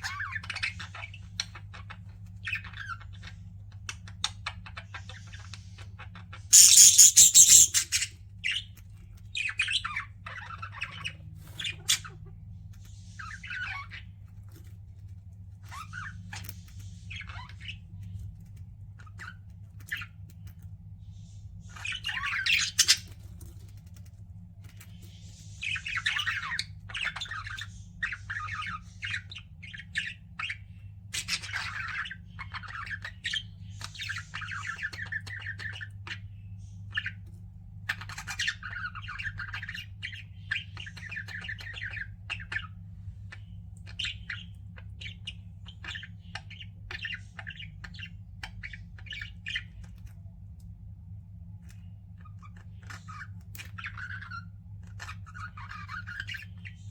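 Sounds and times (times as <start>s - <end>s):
budgerigars chirping: 0.0s - 14.6s, 15.6s - 18.2s, 18.9s - 20.5s, 21.2s - 23.8s, 24.7s - 50.2s, 51.6s - 56.9s
steady low hum: 0.0s - 56.9s.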